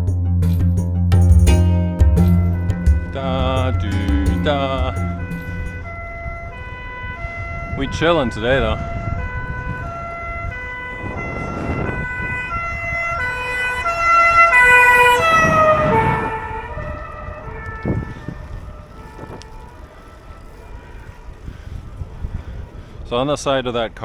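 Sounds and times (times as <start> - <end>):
two-tone fire engine siren: 2.2 - 23.6.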